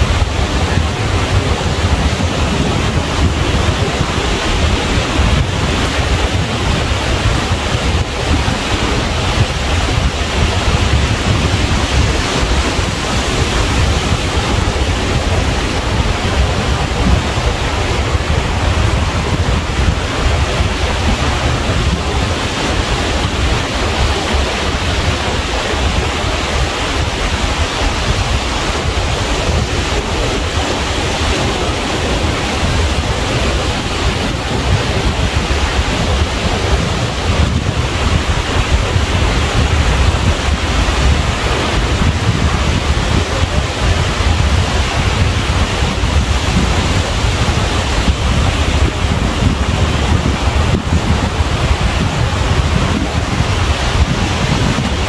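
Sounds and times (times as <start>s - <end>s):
ocean surf washing: 0.0s - 55.0s
wind buffeting microphone: 0.0s - 55.0s.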